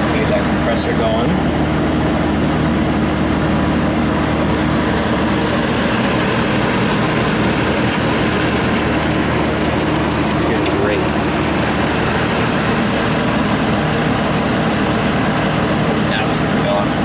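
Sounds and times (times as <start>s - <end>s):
air conditioner fan blowing: 0.0s - 17.0s
compressor hum: 0.0s - 17.0s.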